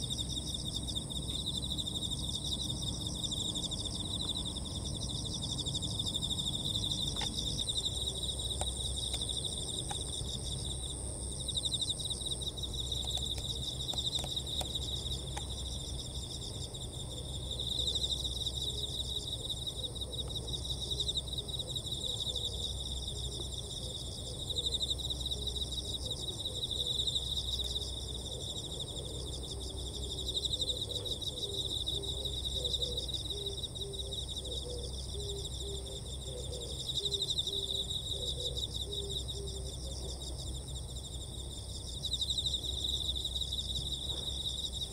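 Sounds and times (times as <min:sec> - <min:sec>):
insects buzzing: 0:00.0 - 0:44.9.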